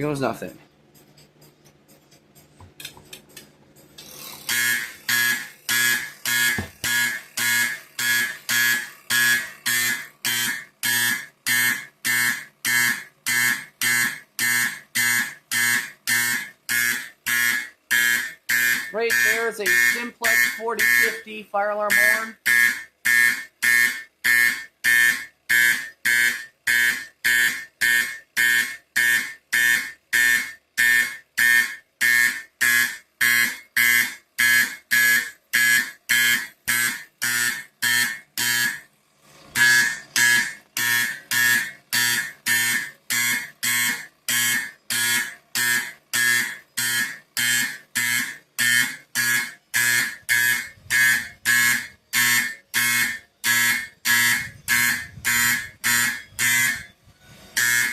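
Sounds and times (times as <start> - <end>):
fire alarm horn buzzing blasts: 4.4 - 38.9, 39.6 - 57.9.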